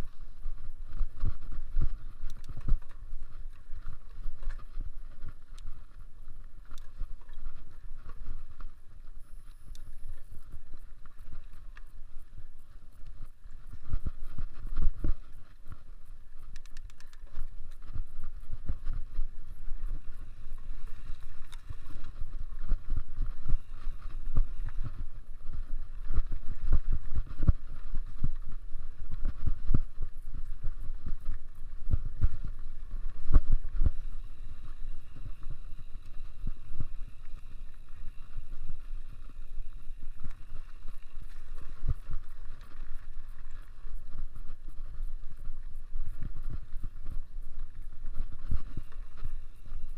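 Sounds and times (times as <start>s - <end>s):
steady hiss: 0.0s - 49.9s
wind rumble: 0.0s - 49.9s.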